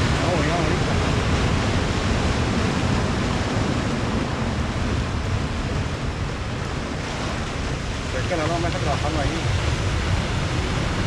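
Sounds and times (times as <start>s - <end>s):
waves breaking on rocks: 0.0s - 11.0s.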